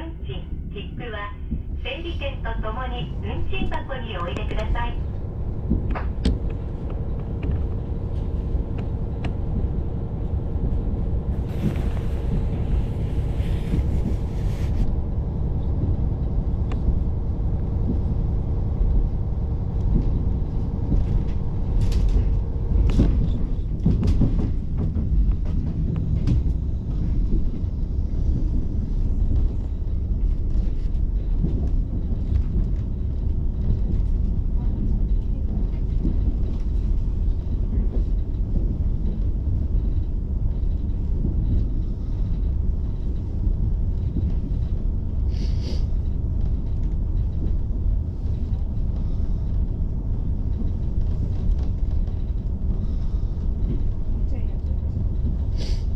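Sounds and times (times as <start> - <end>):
diesel railcar rumbling: 0.0 - 55.9.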